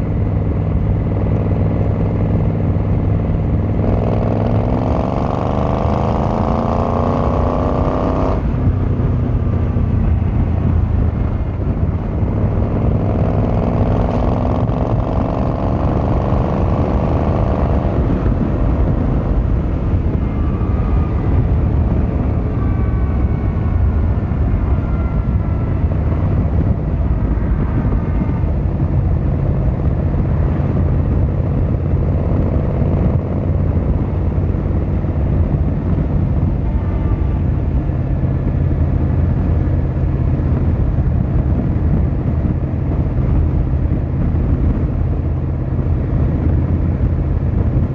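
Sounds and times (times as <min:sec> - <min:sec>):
motorcycle engine and exhaust: 0:00.0 - 0:47.9.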